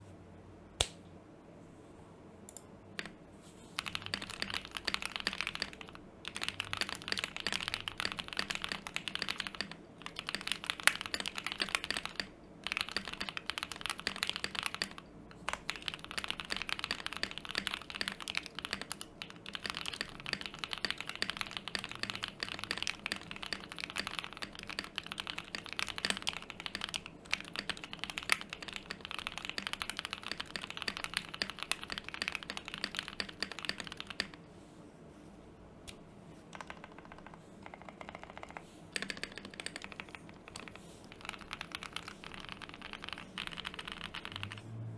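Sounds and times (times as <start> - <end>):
mechanical keyboard typing: 3.8 - 34.5, 36.5 - 44.6.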